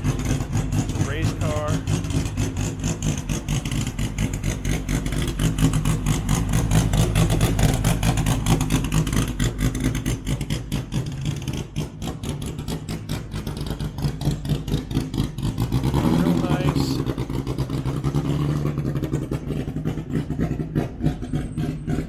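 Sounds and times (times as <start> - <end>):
race car engine rumbling: 0.0 - 22.0.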